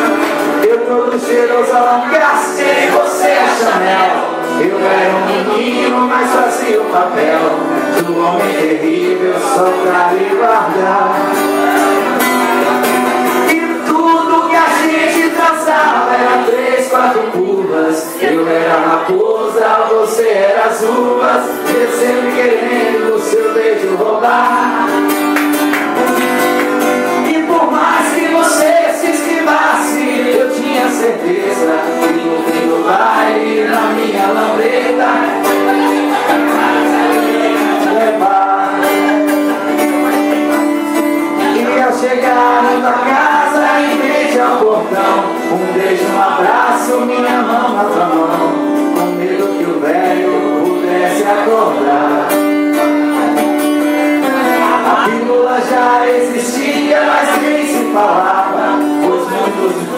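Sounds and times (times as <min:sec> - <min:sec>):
acoustic guitar: 0:00.0 - 0:59.9
group singing: 0:00.0 - 0:59.9.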